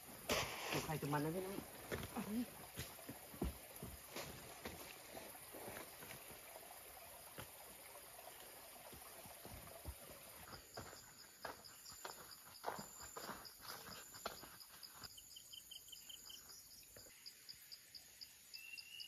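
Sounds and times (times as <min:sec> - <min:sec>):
insect chirping high and fast: 0:00.0 - 0:19.0.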